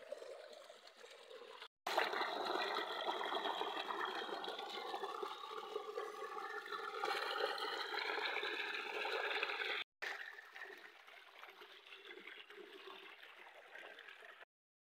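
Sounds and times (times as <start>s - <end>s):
water pouring and splashing: 0.0s - 14.5s.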